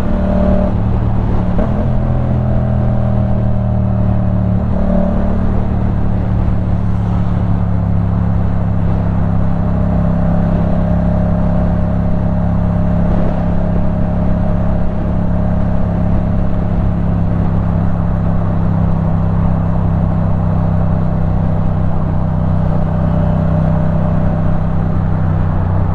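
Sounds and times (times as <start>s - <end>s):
motorcycle engine running steadily: 0.0s - 25.9s.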